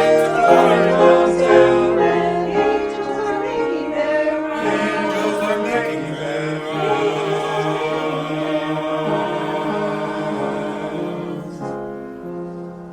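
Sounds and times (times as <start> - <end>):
choir singing held notes: 0.0 - 12.7.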